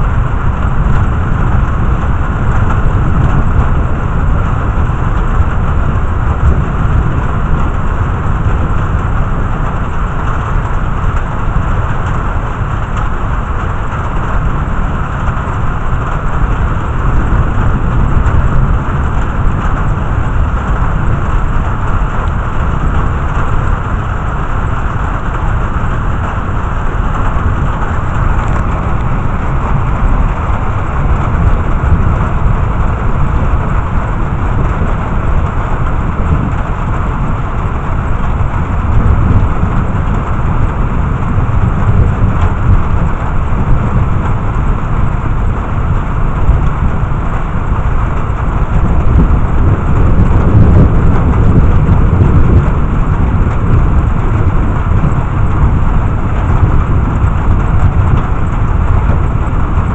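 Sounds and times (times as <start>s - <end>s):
continuous low rumble: 0.0s - 59.9s
rain hiss: 0.0s - 59.9s.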